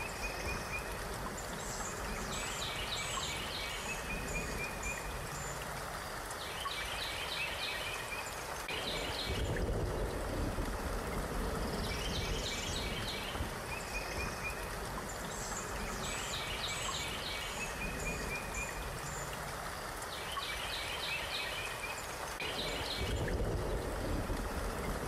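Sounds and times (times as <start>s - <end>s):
flowing water: 0.0s - 25.0s
songbird chirping: 0.0s - 25.0s.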